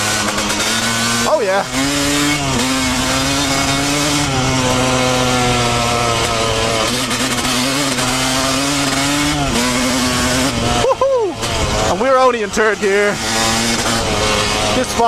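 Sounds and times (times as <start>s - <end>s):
dirt bike engine at speed: 0.0s - 15.0s.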